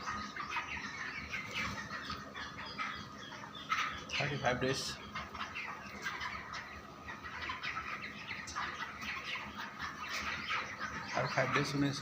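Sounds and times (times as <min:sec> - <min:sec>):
chickens cheeping and peeping: 0:00.0 - 0:12.0.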